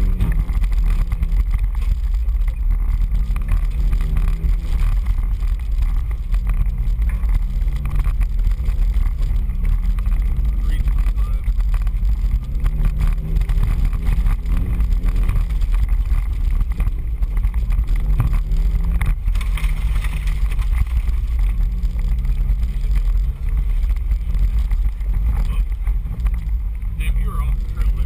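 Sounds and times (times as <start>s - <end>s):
off-road engine running: 0.0s - 28.0s
wind buffeting microphone: 0.0s - 28.0s.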